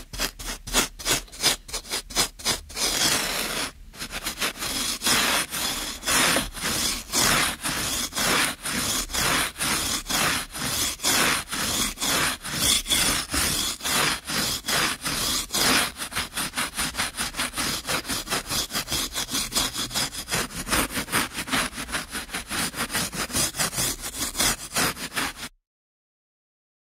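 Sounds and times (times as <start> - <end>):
scraping on rough surface: 0.0 - 25.5.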